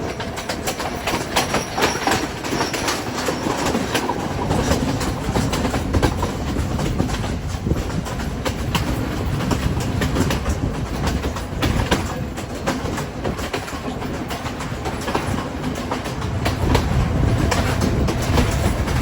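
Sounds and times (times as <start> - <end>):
train rumbling on rails: 0.0 - 19.0
wheels clattering over track joints: 0.0 - 19.0.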